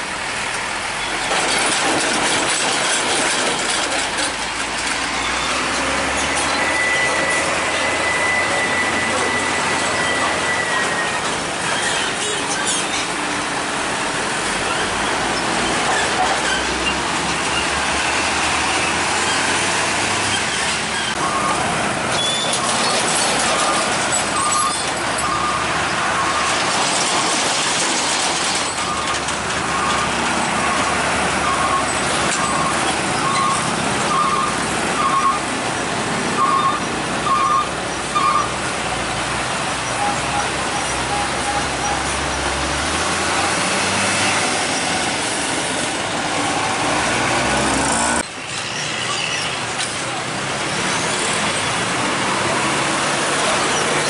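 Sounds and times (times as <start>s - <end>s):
heavy road traffic: 0.0s - 54.0s.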